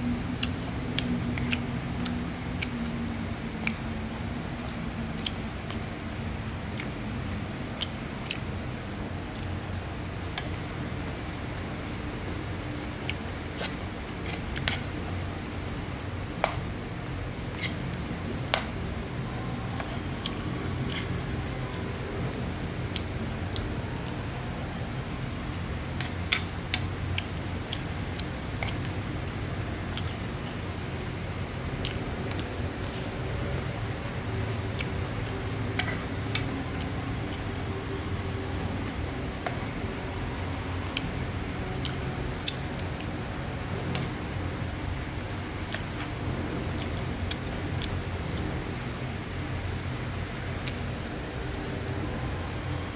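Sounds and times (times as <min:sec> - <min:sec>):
low hum and hiss: 0:00.0 - 0:52.9.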